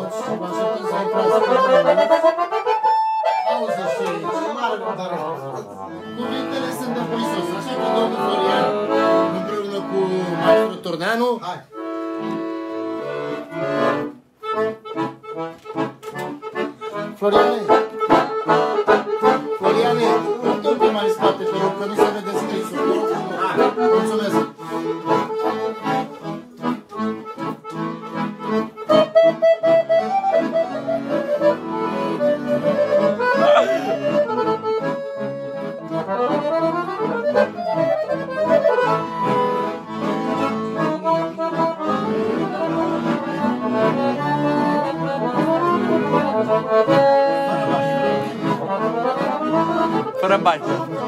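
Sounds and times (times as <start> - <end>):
accordion folk music: 0.0 - 51.0.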